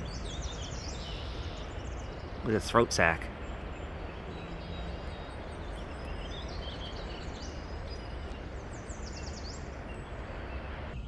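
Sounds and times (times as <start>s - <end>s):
songbirds chirping and trilling: 0.0s - 11.0s
steady rushing outdoor noise: 0.0s - 11.0s.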